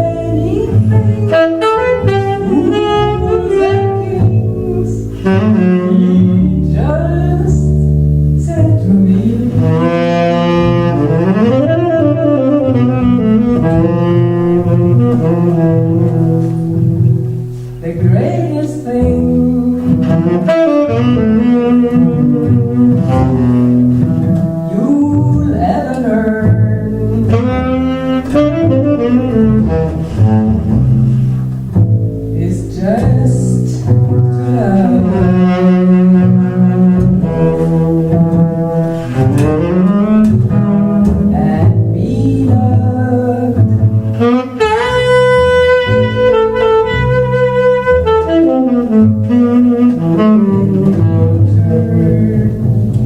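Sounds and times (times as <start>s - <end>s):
saxophone playing: 0.0s - 32.4s, 33.2s - 53.0s
double bass playing: 0.0s - 53.0s.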